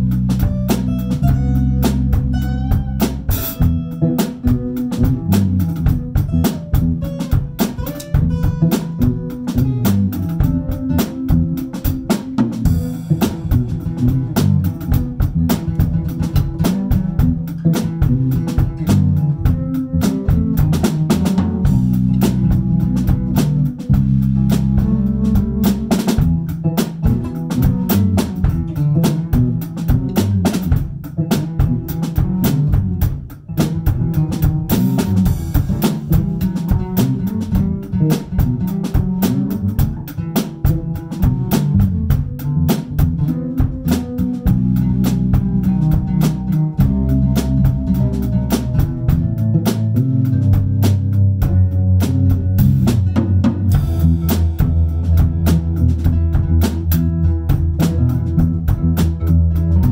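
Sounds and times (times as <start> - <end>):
bass guitar: 0.0 - 59.9
drum kit with rimshots: 0.0 - 59.9
guitar: 0.0 - 59.9.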